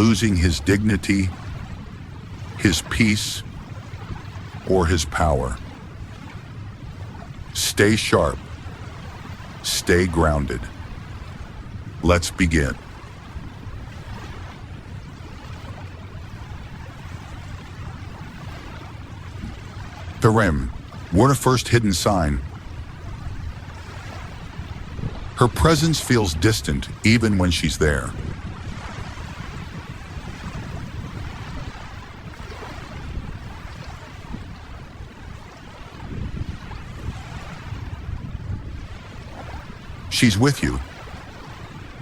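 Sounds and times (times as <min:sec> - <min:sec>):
ocean waves rushing on shore: 0:00.0 - 0:42.0.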